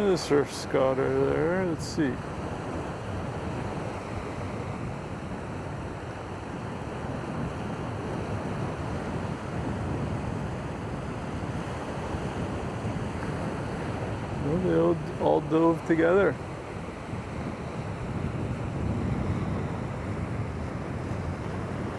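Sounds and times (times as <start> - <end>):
surf along the shore: 0.0 - 21.9
wind: 0.0 - 21.9.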